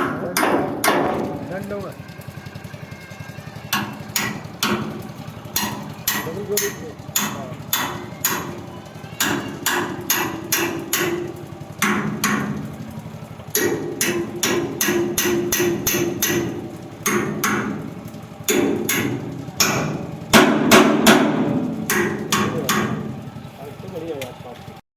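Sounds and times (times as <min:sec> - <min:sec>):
hammer striking metal: 0:00.0 - 0:01.5, 0:03.7 - 0:12.7, 0:13.5 - 0:23.2.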